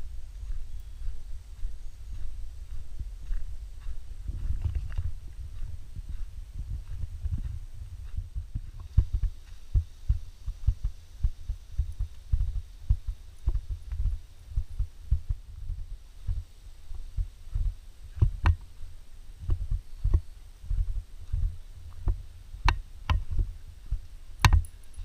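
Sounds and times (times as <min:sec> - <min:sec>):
walking footsteps: 0:00.0 - 0:25.0.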